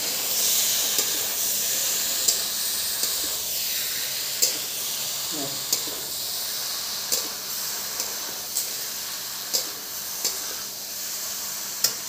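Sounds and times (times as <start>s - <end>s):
food sizzling in pan: 0.0s - 12.0s.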